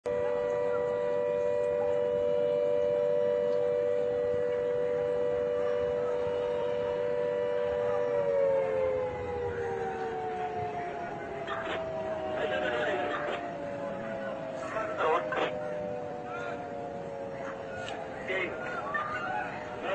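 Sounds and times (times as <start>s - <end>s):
warning siren wailing: 0.0s - 19.9s.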